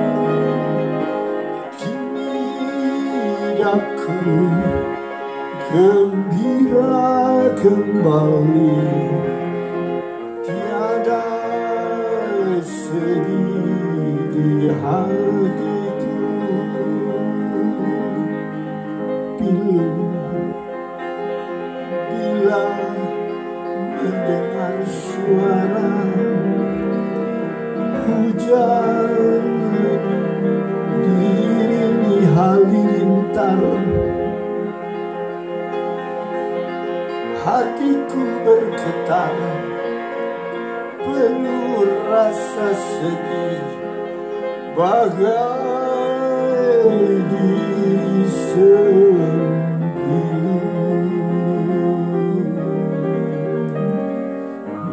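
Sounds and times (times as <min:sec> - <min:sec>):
person singing with vibrato: 0:00.0 - 0:54.9
upright piano accompaniment: 0:00.0 - 0:54.9.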